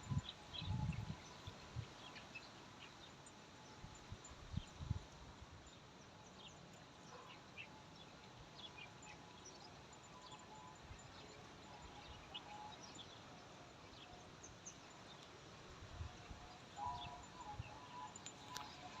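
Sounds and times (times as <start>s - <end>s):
rural outdoor ambience: 0.0s - 19.0s.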